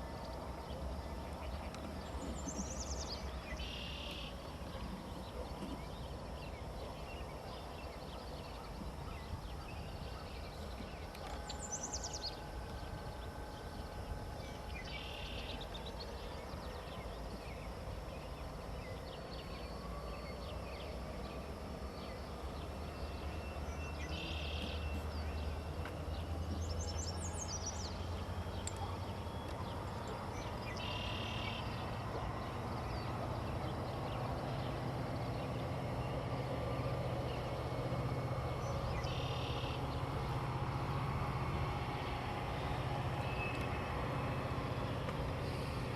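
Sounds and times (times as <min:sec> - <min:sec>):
low background rumble: 0:00.0 - 0:45.9
songbird buzzy song: 0:00.0 - 0:45.9.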